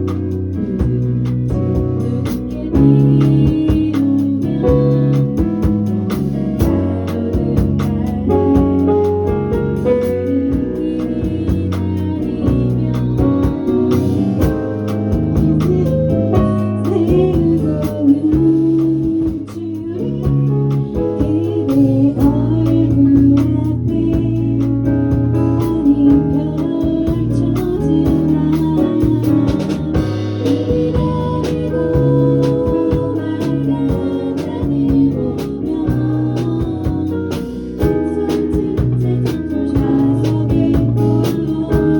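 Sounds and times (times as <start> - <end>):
person singing: 0.0 - 24.8, 25.5 - 41.9
live band playing: 0.0 - 41.9
steady drum beat: 0.0 - 41.9.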